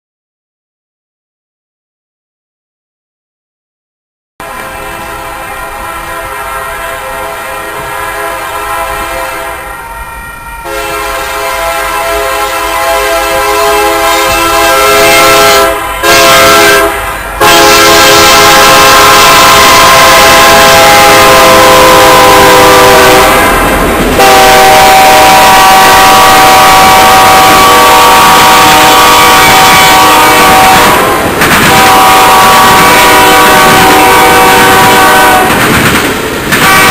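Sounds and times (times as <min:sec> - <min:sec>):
locomotive air horn: 0:04.4 - 0:35.6, 0:36.6 - 0:36.9
train cars rail noise: 0:04.4 - 0:36.9.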